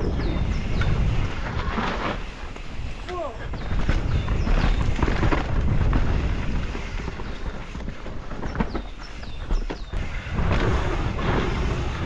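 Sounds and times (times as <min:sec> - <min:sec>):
tyres rumbling on dirt: 0:00.0 - 0:12.0
wind rushing over microphone: 0:00.0 - 0:12.0
bike rattling and knocking: 0:00.6 - 0:12.0.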